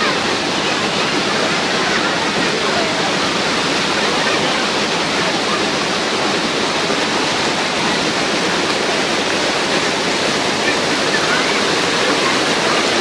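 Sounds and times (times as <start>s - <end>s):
waterfall crashing into pool: 0.0s - 13.0s.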